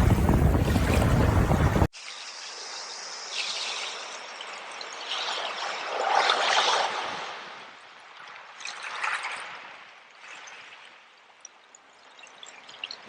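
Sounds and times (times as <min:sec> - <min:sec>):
small stream trickling: 0:01.8 - 0:13.0.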